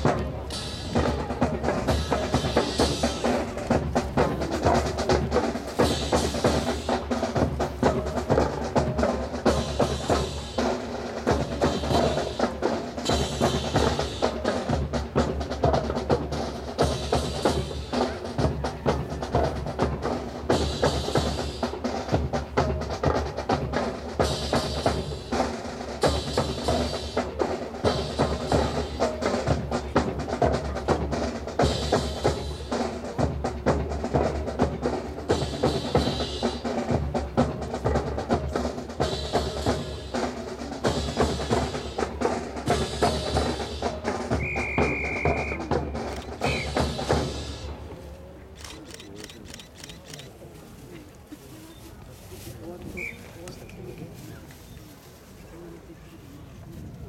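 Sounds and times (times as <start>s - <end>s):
marching snare and bass drums: 0.0s - 50.3s, 52.6s - 54.2s.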